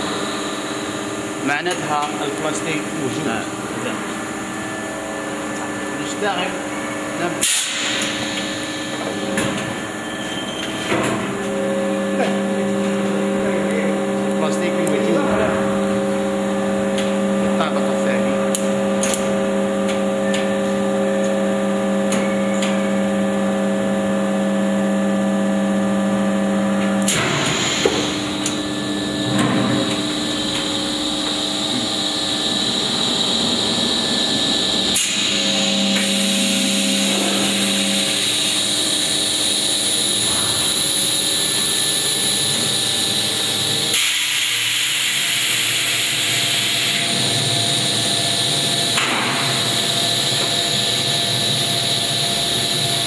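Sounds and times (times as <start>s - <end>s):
molding machine mechanical hum: 0.0s - 53.0s.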